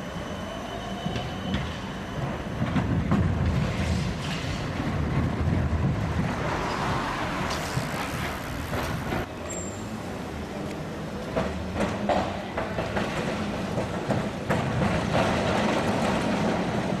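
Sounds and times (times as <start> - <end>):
street traffic: 0.0 - 17.0
tram rumbling on rails: 0.0 - 17.0.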